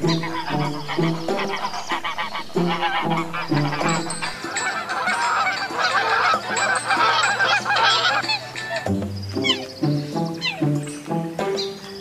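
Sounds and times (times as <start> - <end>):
swans honking: 0.0 - 12.0.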